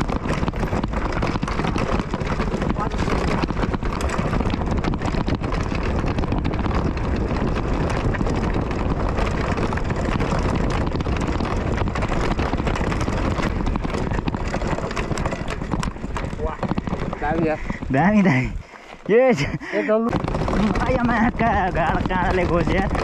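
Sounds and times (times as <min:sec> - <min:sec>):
bike rattling: 0:00.0 - 0:23.0
wind buffeting microphone: 0:00.0 - 0:23.0.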